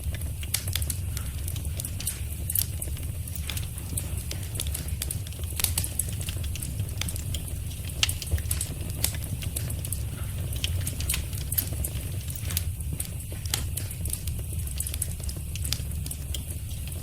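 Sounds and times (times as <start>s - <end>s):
fire pops and snaps: 0.0s - 17.0s
low rumble of flames: 0.0s - 17.0s
wood fire crackling: 0.0s - 17.0s.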